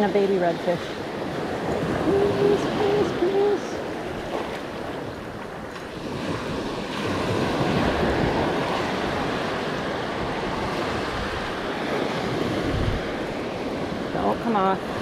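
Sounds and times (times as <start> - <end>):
surf breaking and washing: 0.0 - 15.0
wind on microphone: 0.0 - 15.0.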